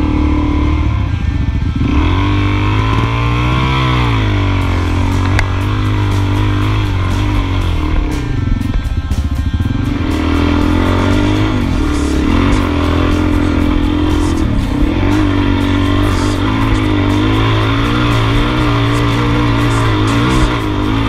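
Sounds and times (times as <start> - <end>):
motorcycle engine under load: 0.0 - 21.0.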